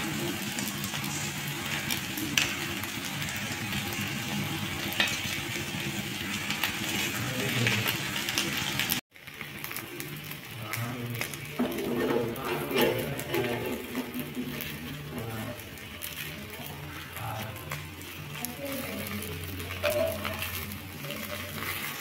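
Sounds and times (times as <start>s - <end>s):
batter sizzling on a pan: 0.0s - 22.0s.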